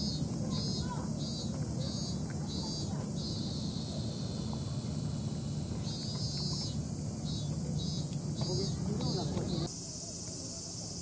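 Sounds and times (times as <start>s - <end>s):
cicadas shrilling: 0.0s - 11.0s.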